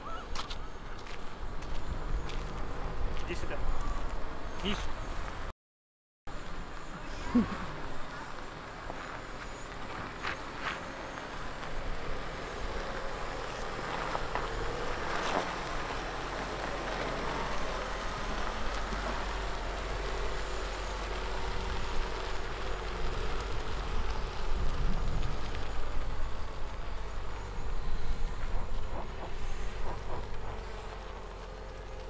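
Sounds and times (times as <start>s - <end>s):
engine running at low speed: 0.0s - 5.5s, 6.3s - 32.0s
tyres rumbling on gravel: 0.0s - 5.5s, 6.3s - 32.0s.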